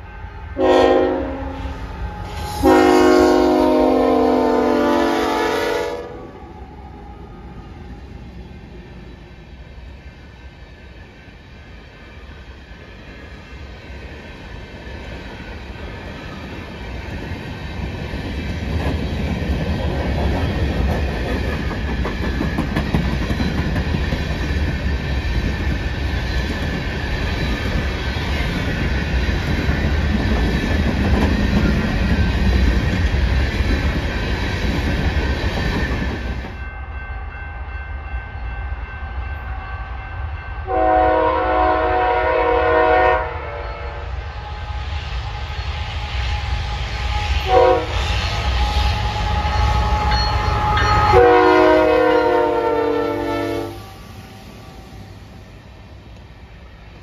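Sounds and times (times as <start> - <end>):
distant train rumble: 0.0 - 57.0
freight train wheels rumbling: 0.0 - 57.0.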